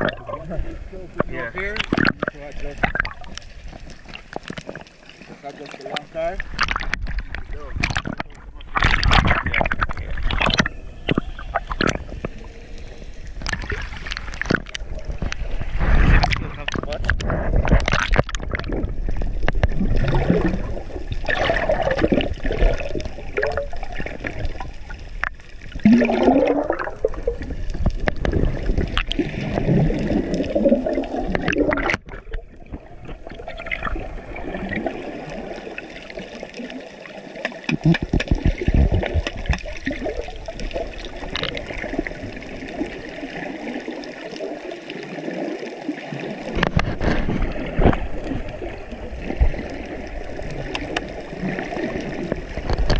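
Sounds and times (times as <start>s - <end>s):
muffled underwater water gurgling: 0.0s - 52.9s.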